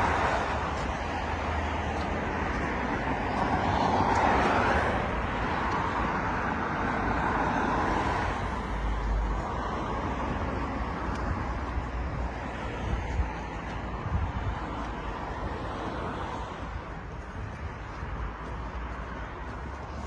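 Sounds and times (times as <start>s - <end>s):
vehicle passing: 0.0s - 17.1s
hum of road traffic: 0.0s - 20.0s.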